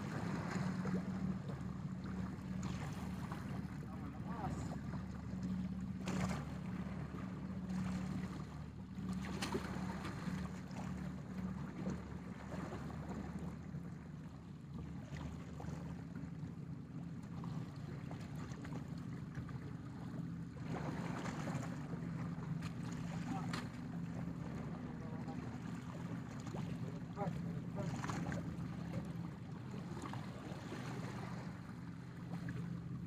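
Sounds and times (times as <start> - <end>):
low engine drone: 0.0 - 33.0.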